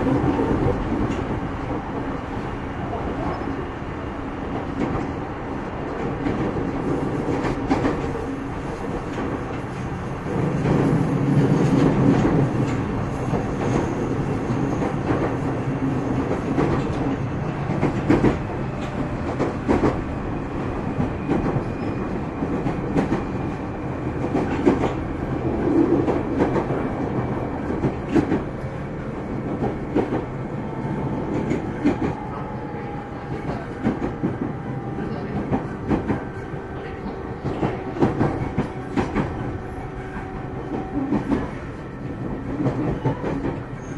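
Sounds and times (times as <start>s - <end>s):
train rolling rumble: 0.0s - 43.9s.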